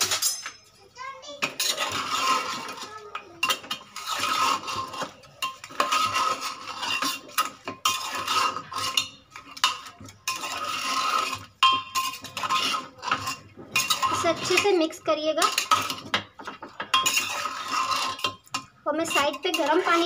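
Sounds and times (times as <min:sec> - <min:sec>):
metal spoon scraping pot: 0:00.0 - 0:20.0.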